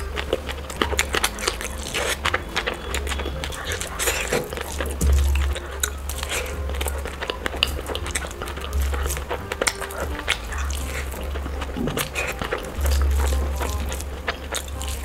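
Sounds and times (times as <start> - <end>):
background music with deep bass: 0.0 - 15.0
person chewing with wet clicks: 0.0 - 15.0.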